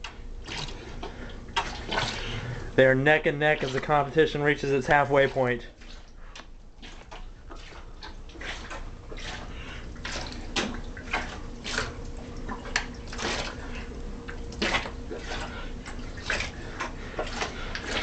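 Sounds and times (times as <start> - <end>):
water splashing in sink: 0.0 - 18.0.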